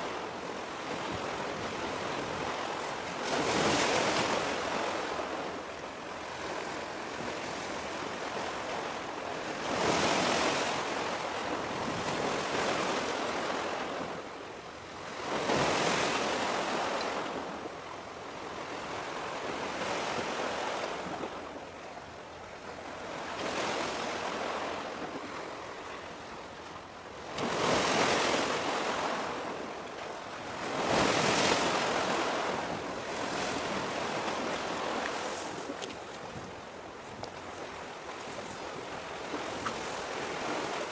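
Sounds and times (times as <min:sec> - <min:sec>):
sea waves washing on shore: 0:00.0 - 0:40.9.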